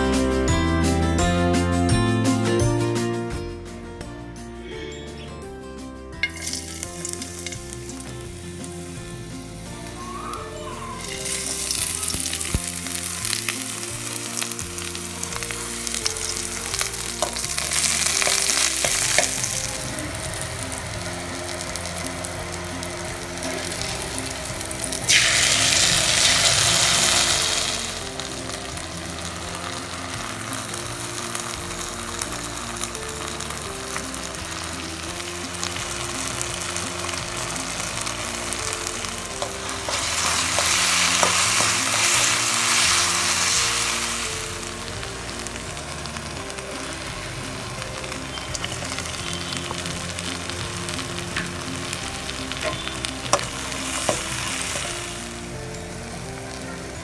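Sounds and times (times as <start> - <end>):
vegetables sizzling in hot oil: 6.2 - 57.0.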